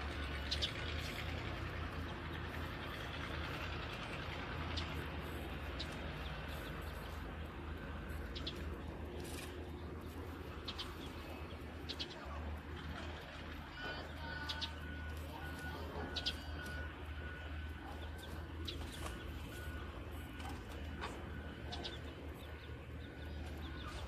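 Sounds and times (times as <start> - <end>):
low diesel engine rumble: 0.0 - 24.0.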